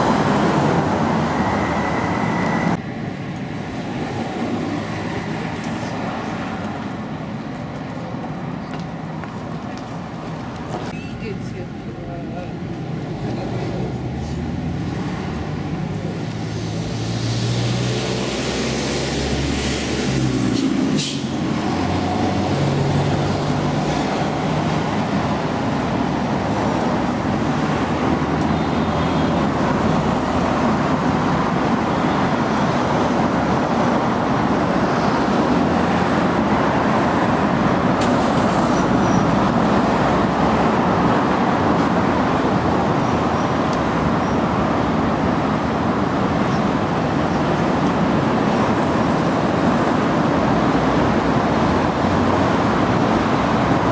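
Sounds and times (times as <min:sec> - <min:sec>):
road traffic hum: 0:00.0 - 0:53.9.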